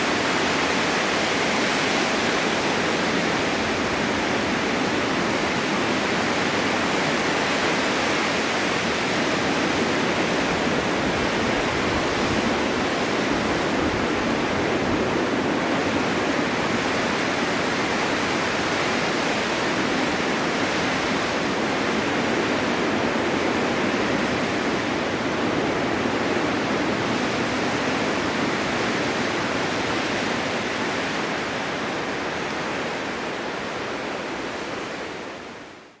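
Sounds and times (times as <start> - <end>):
storm wind blowing steadily: 0.0 - 36.0.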